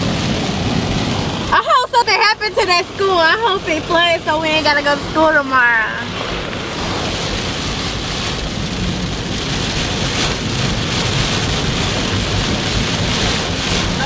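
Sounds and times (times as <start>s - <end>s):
heavy rain on a car: 0.0s - 14.0s
low rumble: 0.0s - 14.0s.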